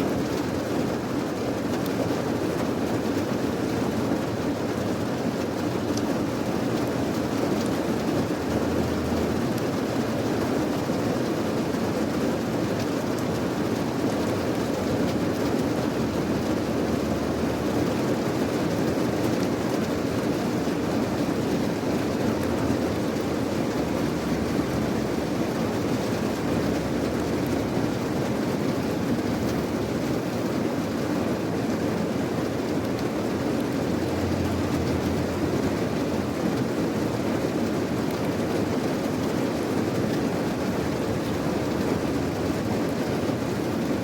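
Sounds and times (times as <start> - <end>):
steady rain hiss: 0.0 - 44.0
faint raindrop ticks: 1.6 - 2.7, 4.8 - 30.6, 32.8 - 43.7.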